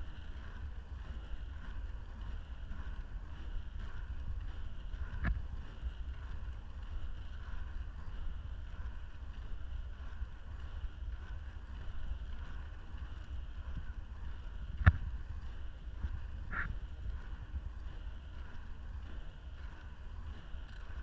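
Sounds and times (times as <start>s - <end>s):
inline skate wheels on asphalt: 0.0s - 21.0s
wind noise on microphone: 0.0s - 21.0s.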